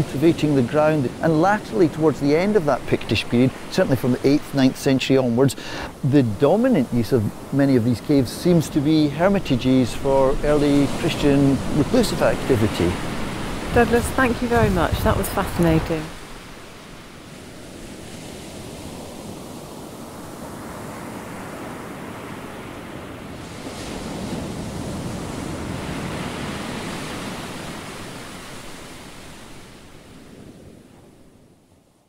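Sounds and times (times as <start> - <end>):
waves washing onto shingle: 0.0 - 22.8, 23.4 - 30.2
wind: 0.0 - 32.0.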